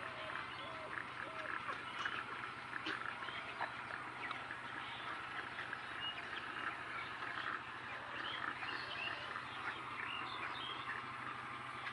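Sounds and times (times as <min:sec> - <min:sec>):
chickens clucking: 0:00.0 - 0:11.9
steady low hum: 0:00.0 - 0:11.9.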